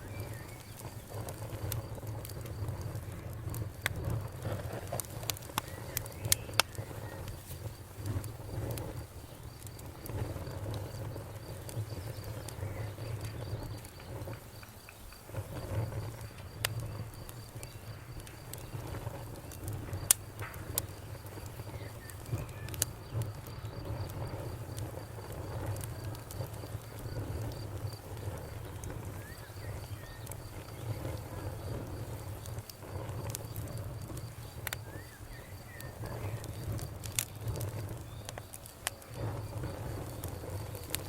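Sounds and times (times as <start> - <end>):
fire crackling and popping: 0.0 - 41.0
low rush of flame: 0.0 - 41.0.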